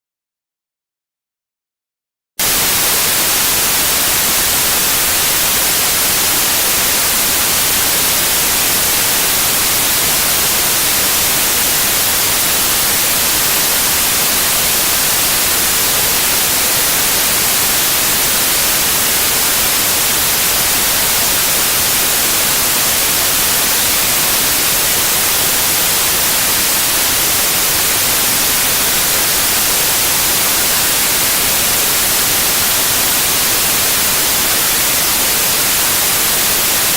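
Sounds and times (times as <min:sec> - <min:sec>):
loud white noise: 0:02.4 - 0:36.9.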